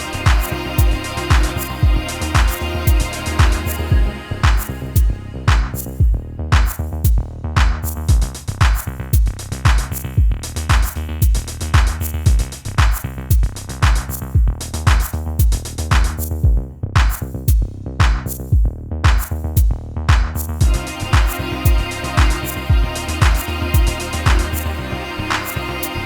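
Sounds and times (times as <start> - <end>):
electronic music with drum machine: 0.0 - 18.2, 19.1 - 26.0.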